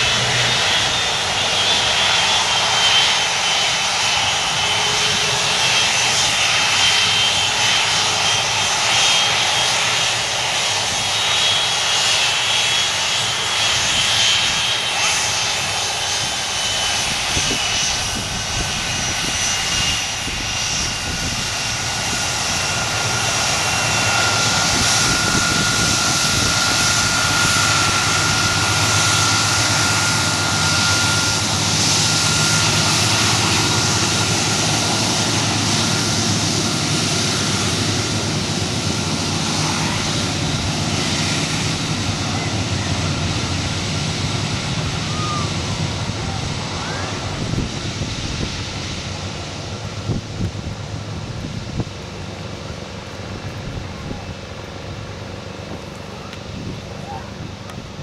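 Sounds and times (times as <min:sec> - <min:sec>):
deep aircraft rumble: 0:00.0 - 0:58.0
jet engine whine and roar: 0:00.0 - 0:58.0.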